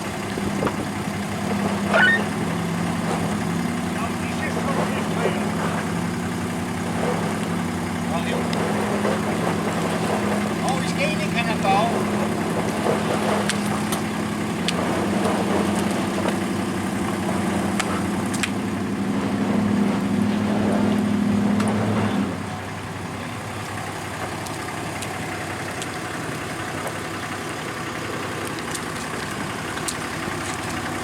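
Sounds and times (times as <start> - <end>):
engine low hum: 0.0 - 31.0
quieter engine idling: 0.0 - 31.0.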